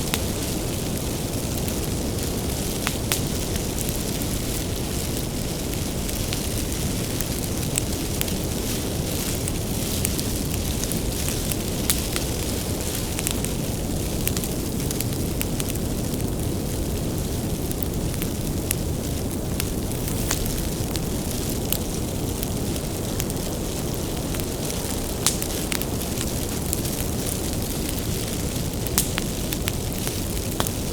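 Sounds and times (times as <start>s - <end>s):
fire crackling and popping: 0.0s - 30.9s
low rumble of flames: 0.0s - 30.9s.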